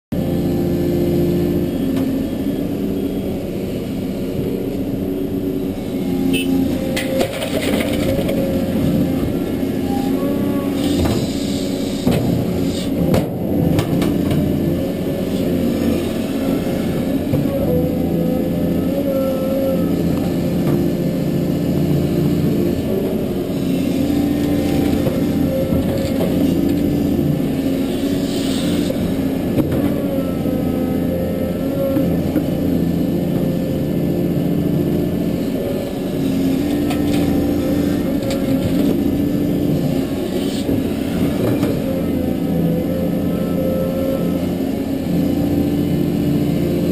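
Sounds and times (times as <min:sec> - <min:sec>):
excavator diesel engine under load: 0:00.1 - 0:46.9
hydraulic whine: 0:00.2 - 0:46.9.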